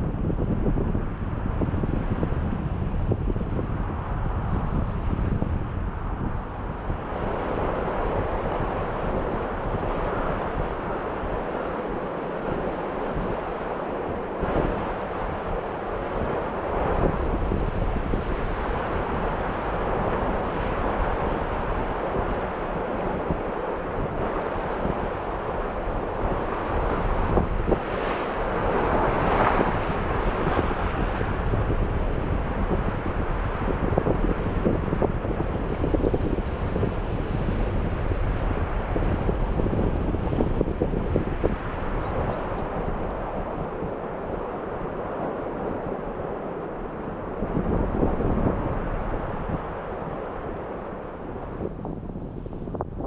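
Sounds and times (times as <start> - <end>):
wind buffeting microphone: 0.0 - 53.0
surf on rocky shore: 5.9 - 53.0.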